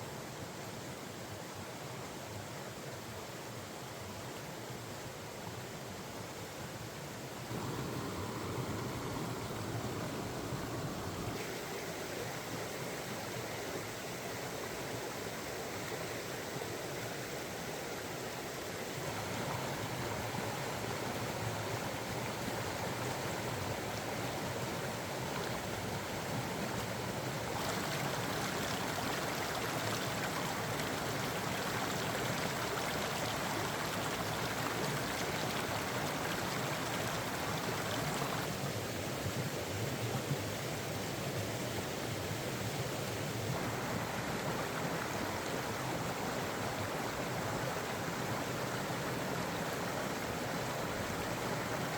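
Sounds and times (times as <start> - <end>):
mountain stream flowing: 0.0 - 51.9.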